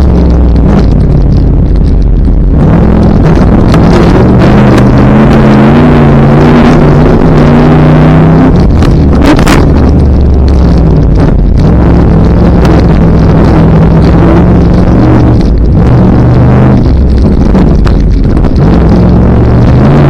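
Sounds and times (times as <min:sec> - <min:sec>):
truck engine running: 0:00.0 - 0:20.0
wind buffeting microphone: 0:00.0 - 0:20.0.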